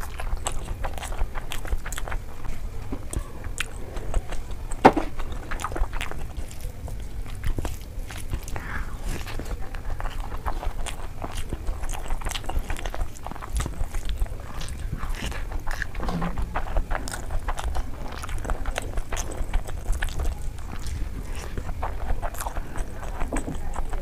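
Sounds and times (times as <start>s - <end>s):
chewing with wet mouth clicks: 0.0s - 24.0s.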